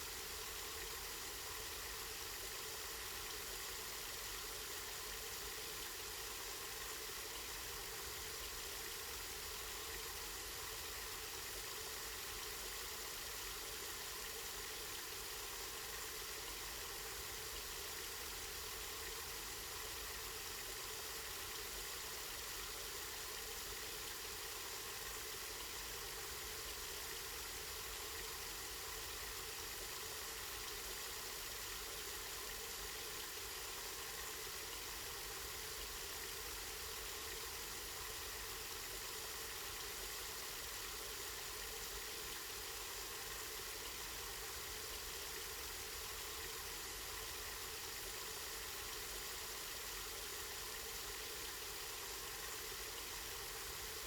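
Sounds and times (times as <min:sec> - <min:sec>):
spring water running and splashing: 0:00.0 - 0:54.0.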